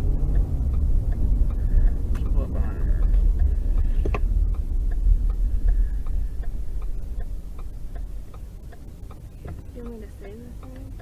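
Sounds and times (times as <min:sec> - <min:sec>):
car indicator ticking: 0:00.0 - 0:11.0
road and engine rumble: 0:00.0 - 0:11.0.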